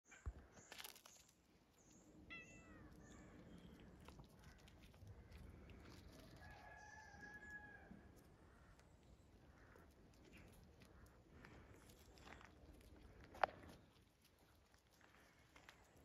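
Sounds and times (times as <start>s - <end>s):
paws scuffling on gravel: 0.7s - 16.0s.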